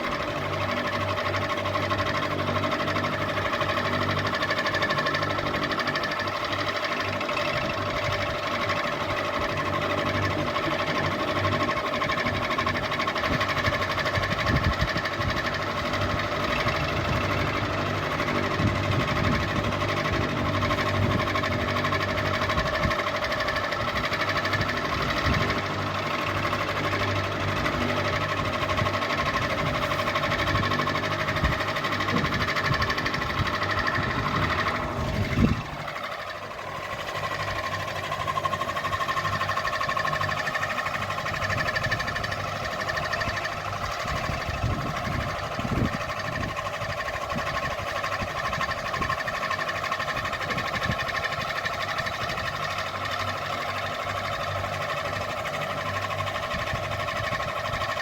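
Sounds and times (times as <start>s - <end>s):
ceiling fan humming: 0.0s - 58.0s.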